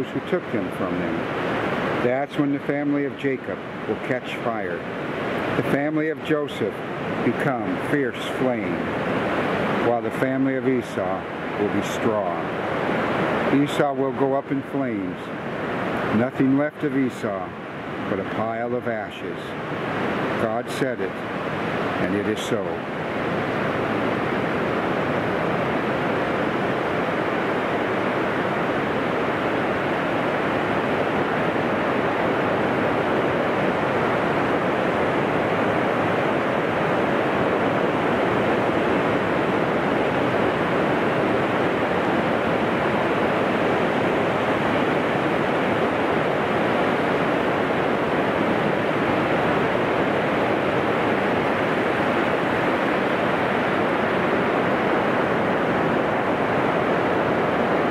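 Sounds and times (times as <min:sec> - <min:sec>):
surf waves washing on beach: 0:00.0 - 0:57.9.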